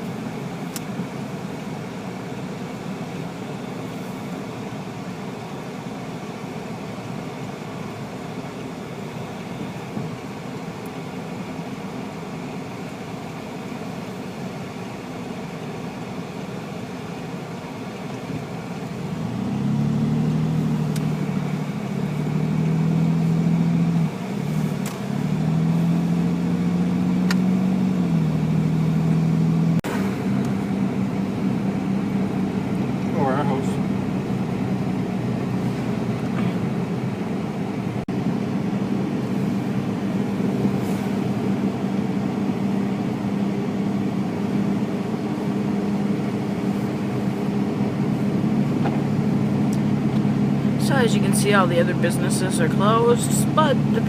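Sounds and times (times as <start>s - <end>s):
car road noise from cabin: 0.0s - 54.0s
low engine hum shifting pitch: 0.0s - 54.0s.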